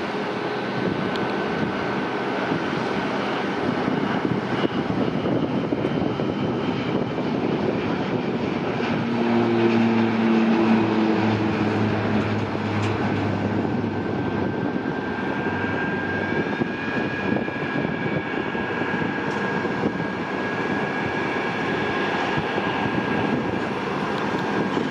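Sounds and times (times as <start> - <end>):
low propeller hum: 0.0 - 24.9
turboprop plane roaring: 0.0 - 24.9.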